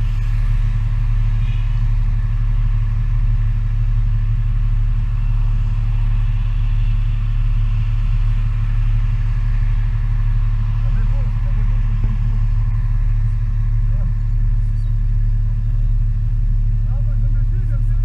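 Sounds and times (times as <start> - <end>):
car cabin engine and road rumble: 0.0 - 18.0.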